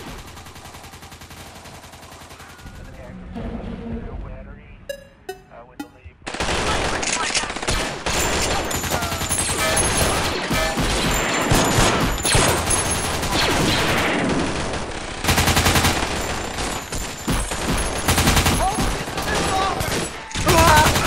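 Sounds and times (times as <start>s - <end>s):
rapid machine-gun fire: 0.0s - 2.9s, 6.3s - 21.0s
gunfire and blaster shots: 0.0s - 3.0s, 6.2s - 21.0s.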